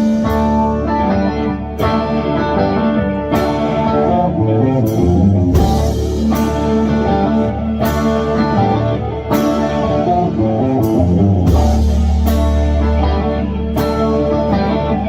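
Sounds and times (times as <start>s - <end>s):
drum kit beat: 0.0s - 15.0s
electric guitar: 0.0s - 15.0s
rock music: 0.0s - 15.0s.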